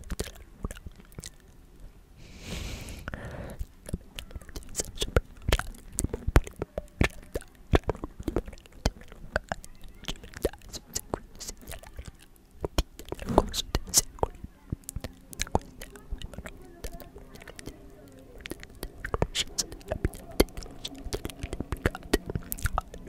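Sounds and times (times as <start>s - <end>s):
mouth clicks and lip smacks: 0.0s - 1.7s, 3.0s - 23.0s
breathy whispering: 2.2s - 23.0s.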